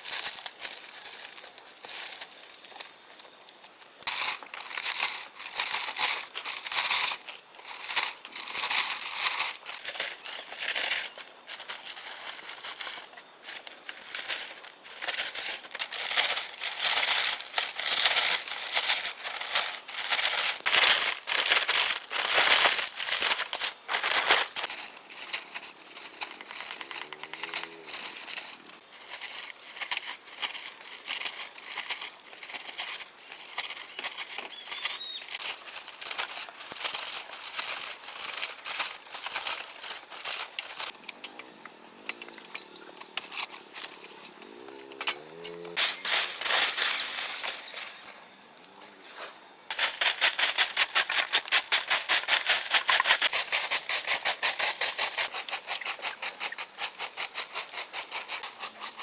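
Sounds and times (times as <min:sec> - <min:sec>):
rustling and crackling: 0:00.0 - 0:41.0, 0:41.6 - 0:59.0.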